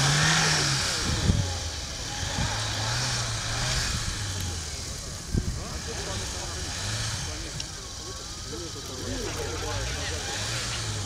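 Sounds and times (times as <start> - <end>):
car engine working hard: 0.0 - 11.0.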